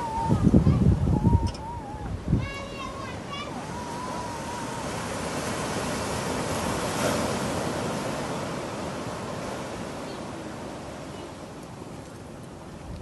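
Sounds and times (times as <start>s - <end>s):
surf washing onto shore: 0.0s - 13.0s.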